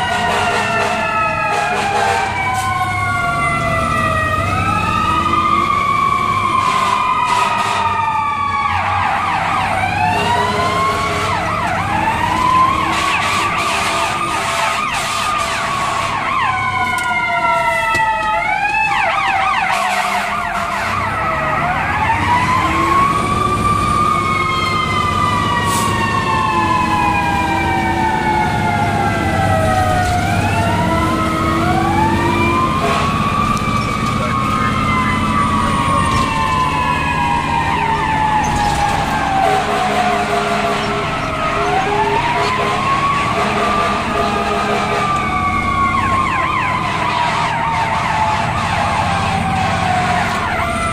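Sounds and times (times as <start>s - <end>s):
fire engine siren wailing: 0.0s - 50.9s.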